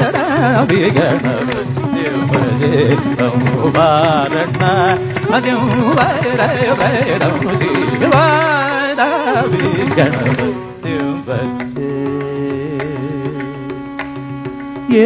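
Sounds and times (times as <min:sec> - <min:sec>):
drum strokes: 0:00.0 - 0:15.0
held accompanying tones: 0:00.0 - 0:15.0
man singing melismatic run: 0:00.0 - 0:15.0.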